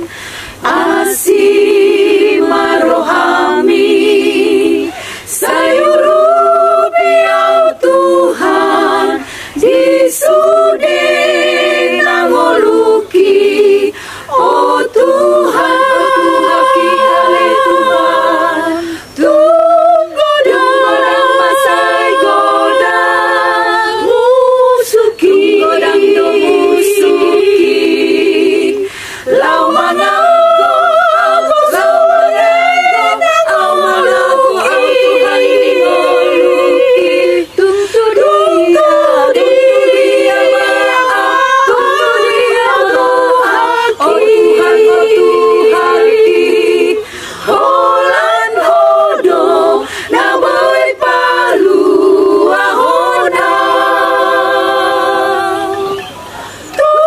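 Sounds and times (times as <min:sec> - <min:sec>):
women's choir singing a cappella: 0:00.0 - 0:57.0.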